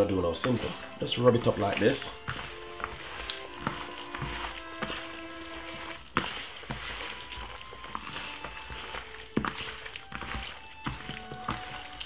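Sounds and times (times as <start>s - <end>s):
hands squelching marinade into chicken: 0.0s - 12.0s
soft background music: 0.0s - 12.0s.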